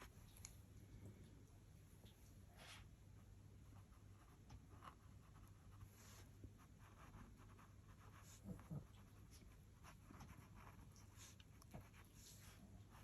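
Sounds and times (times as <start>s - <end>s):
paintbrush strokes on paper: 2.5s - 13.0s.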